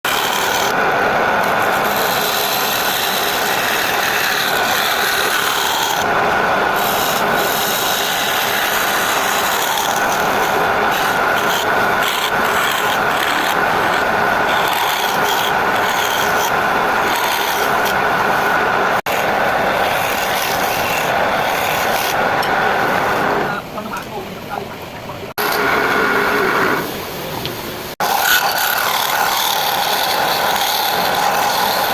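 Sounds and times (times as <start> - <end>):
tool scraping wood: 0.0 - 0.8, 1.4 - 6.1, 6.7 - 23.5, 28.0 - 31.9.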